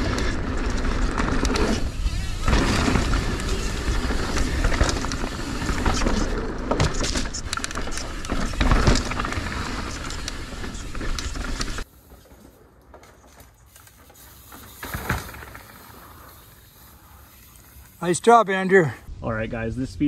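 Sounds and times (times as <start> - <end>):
bike rattling and clattering: 0.0 - 18.4
tyres on rock: 0.0 - 19.1.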